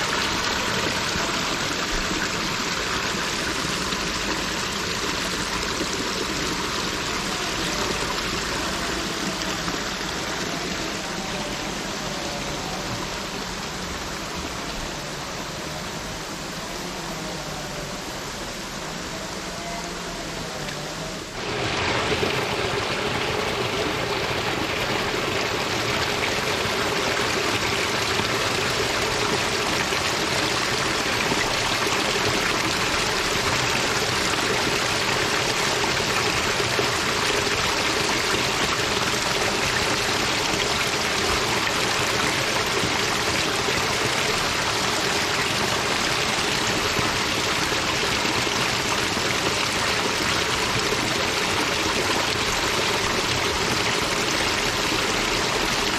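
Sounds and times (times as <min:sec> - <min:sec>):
water rushing: 0:00.0 - 0:55.9.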